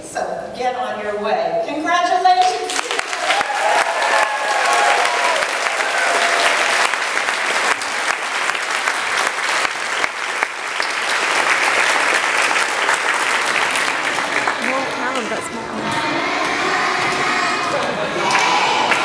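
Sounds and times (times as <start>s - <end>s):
audience applauding: 2.7s - 19.0s.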